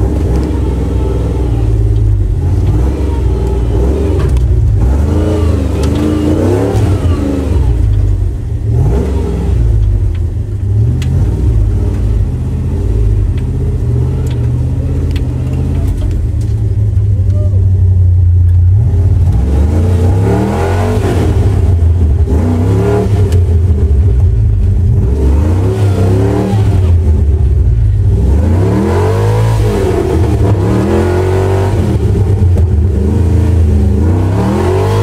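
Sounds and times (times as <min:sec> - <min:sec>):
steady low rumble: 0:00.0 - 0:35.0
vehicle engine revving: 0:00.0 - 0:35.0.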